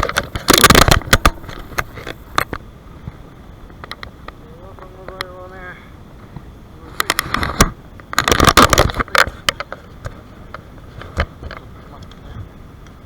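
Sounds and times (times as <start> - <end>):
microphone handling clicks and rustles: 0.0 - 5.4, 6.2 - 13.0.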